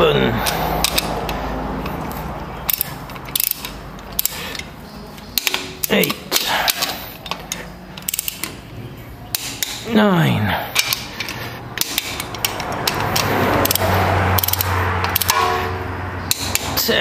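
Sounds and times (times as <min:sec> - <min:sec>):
ratchet wrench clicking: 0:00.4 - 0:08.6, 0:09.3 - 0:09.9, 0:10.7 - 0:15.5, 0:16.2 - 0:16.9.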